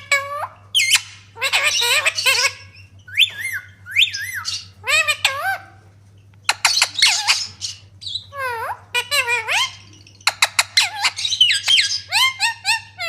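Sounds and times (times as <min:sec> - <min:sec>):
baby parrot squawking and whistling: 0:00.0 - 0:05.7, 0:06.5 - 0:13.0.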